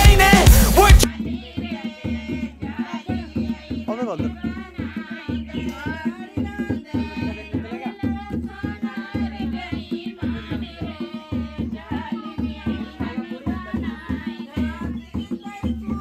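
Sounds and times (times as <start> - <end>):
dholak drum beat: 0.0 - 16.0
women singing folk song: 0.0 - 16.0.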